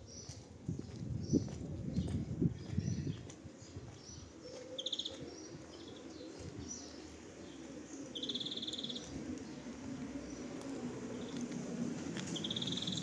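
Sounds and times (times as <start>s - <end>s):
small birds chirping: 0.0s - 11.5s, 12.2s - 13.0s.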